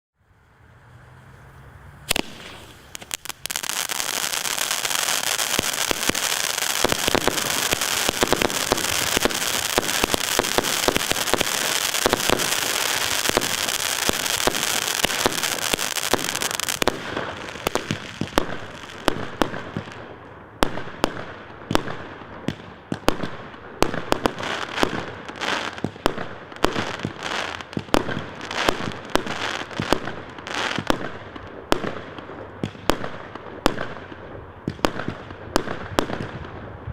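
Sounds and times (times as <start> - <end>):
firework hiss and crackle: 0.8 - 36.9
firework bangs: 2.0 - 36.9.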